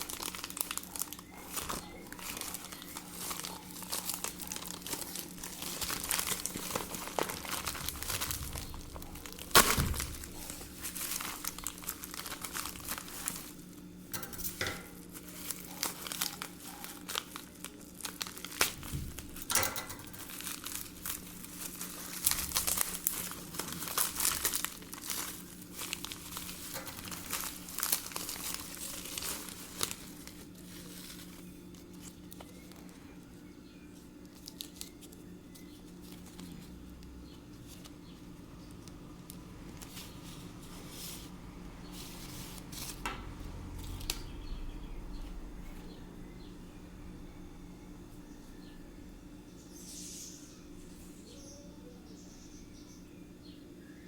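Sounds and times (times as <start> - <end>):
packaging crinkling and tearing: 0.0 - 44.4
low steady hum: 0.0 - 54.0.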